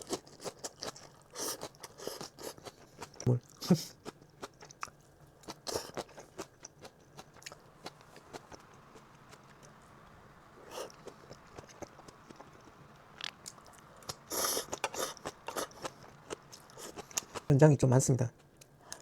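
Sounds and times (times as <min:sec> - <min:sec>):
person chewing salad: 0:00.0 - 0:09.8, 0:10.7 - 0:17.5.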